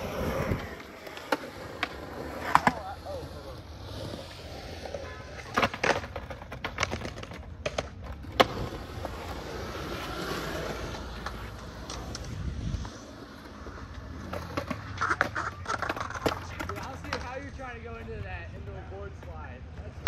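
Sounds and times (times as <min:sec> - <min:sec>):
skateboard clacks: 0:00.0 - 0:20.0
skateboard wheels rolling on concrete: 0:00.0 - 0:20.0.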